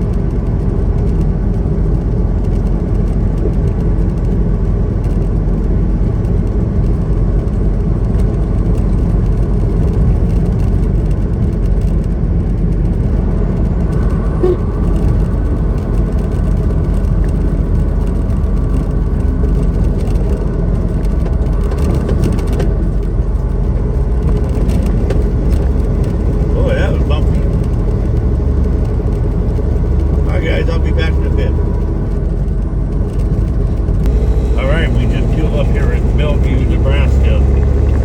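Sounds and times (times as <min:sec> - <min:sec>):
road noise: 0:00.0 - 0:38.0
truck engine drone: 0:00.0 - 0:38.0.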